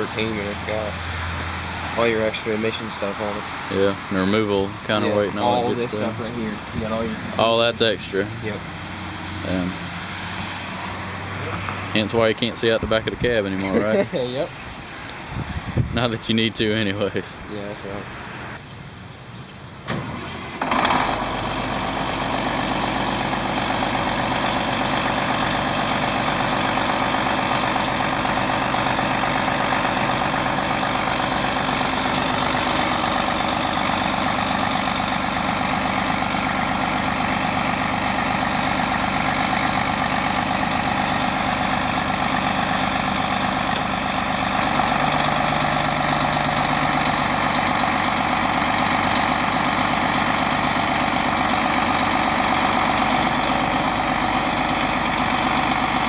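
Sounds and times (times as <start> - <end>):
excavator diesel engine running: 0.0 - 15.2, 19.9 - 56.0.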